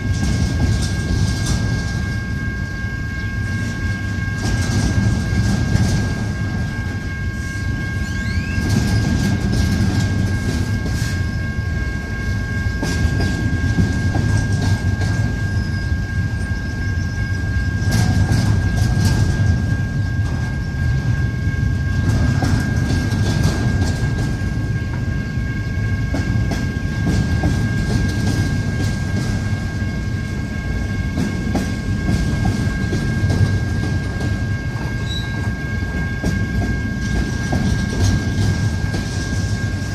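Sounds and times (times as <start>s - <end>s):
freight train cars rumbling: 0.0s - 39.9s.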